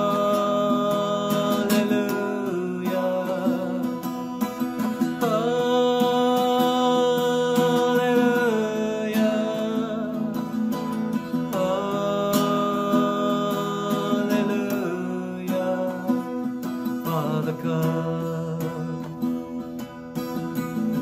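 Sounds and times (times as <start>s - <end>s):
man singing: 0.0s - 21.0s
strummed acoustic guitar: 0.0s - 21.0s.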